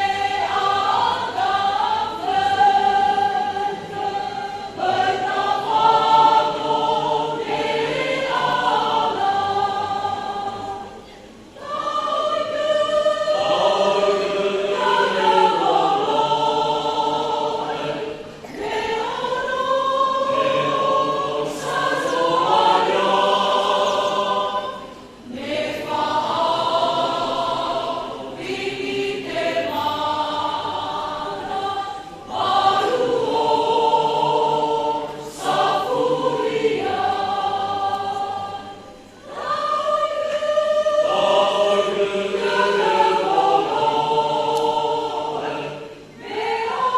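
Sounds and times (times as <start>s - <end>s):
choir singing a hymn: 0.0s - 46.9s.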